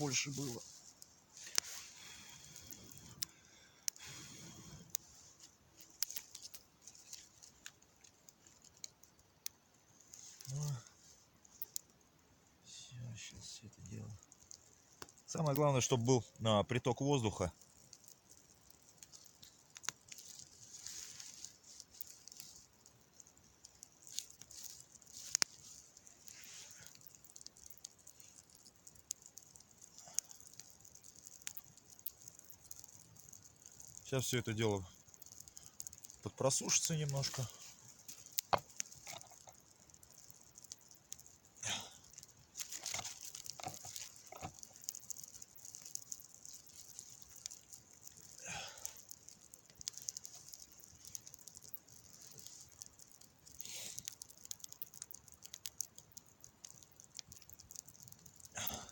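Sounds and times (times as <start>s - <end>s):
campfire crackles and pops: 0.0s - 58.9s
soft fire hiss: 0.0s - 58.9s.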